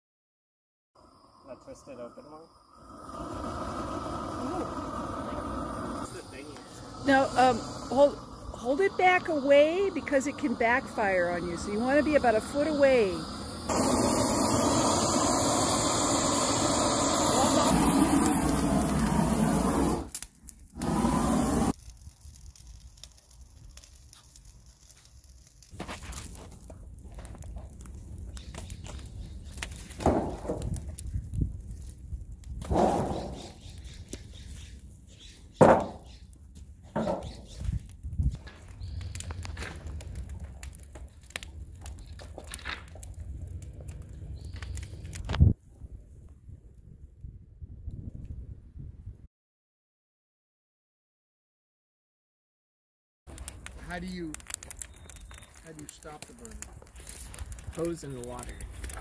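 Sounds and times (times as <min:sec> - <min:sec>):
wood fire crackling and popping: 0:02.9 - 0:45.6, 0:53.3 - 0:59.0.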